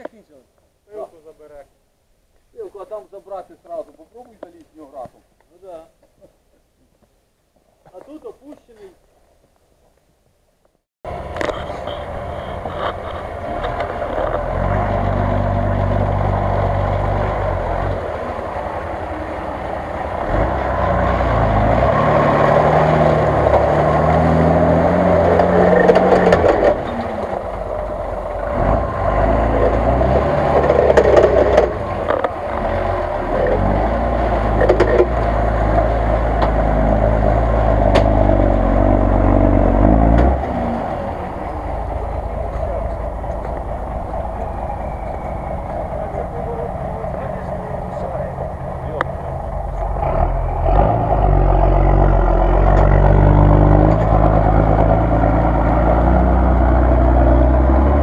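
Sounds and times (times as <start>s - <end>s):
engine revving under load: 11.1s - 58.0s
tyres churning through mud: 11.1s - 58.0s.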